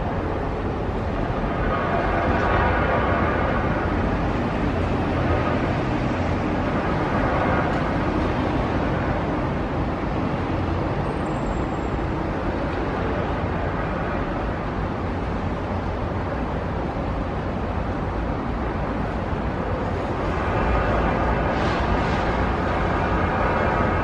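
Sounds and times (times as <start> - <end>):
electric train wheels rumbling on rails: 0.0 - 24.0.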